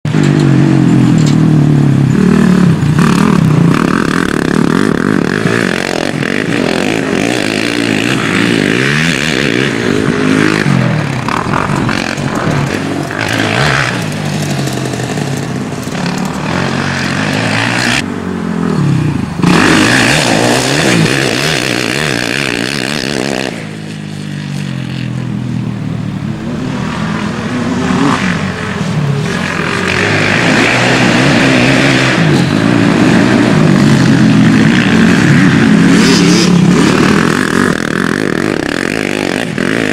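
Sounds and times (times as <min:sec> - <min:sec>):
motocross bike engines revving: 0:00.1 - 0:39.9.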